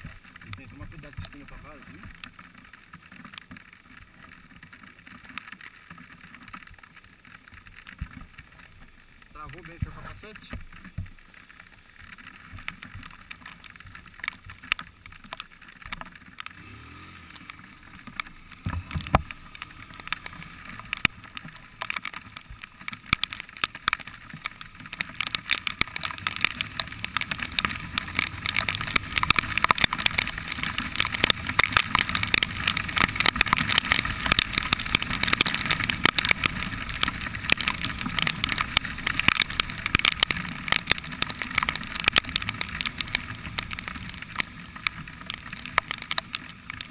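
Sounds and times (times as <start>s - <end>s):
raindrops clicking on camera: 0.0s - 46.9s
wet road hiss: 0.0s - 46.9s
wind: 0.0s - 46.9s.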